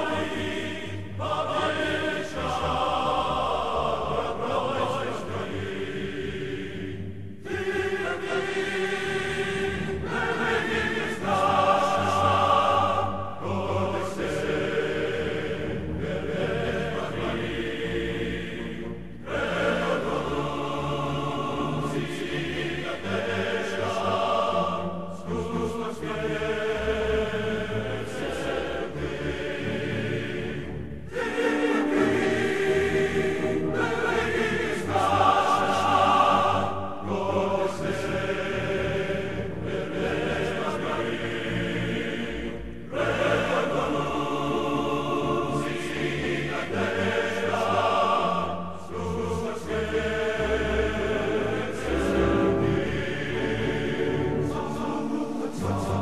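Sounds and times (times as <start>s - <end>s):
choir singing held chords: 0.0s - 56.0s.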